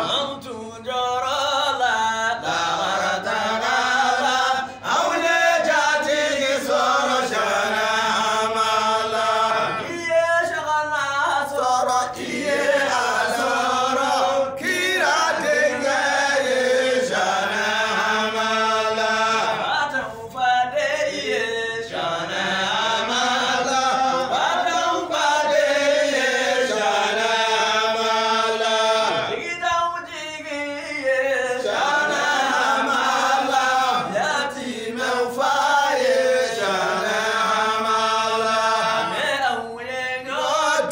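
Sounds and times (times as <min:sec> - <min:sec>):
voices chanting: 0:00.0 - 0:00.8, 0:01.5 - 0:10.2, 0:11.3 - 0:29.8, 0:30.6 - 0:40.9.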